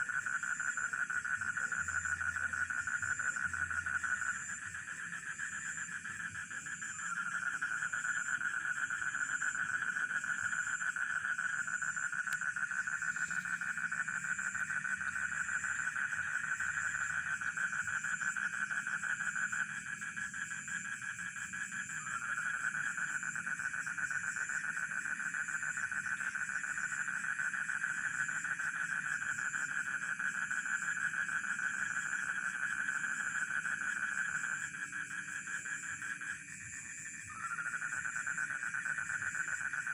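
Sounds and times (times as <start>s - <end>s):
crickets chirping: 0.0s - 39.9s
frogs trilling: 0.0s - 39.9s.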